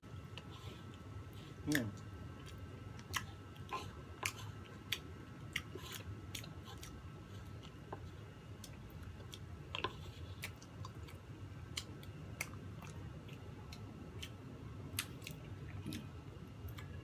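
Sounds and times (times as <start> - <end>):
chewing soft cake: 0.1 - 17.0.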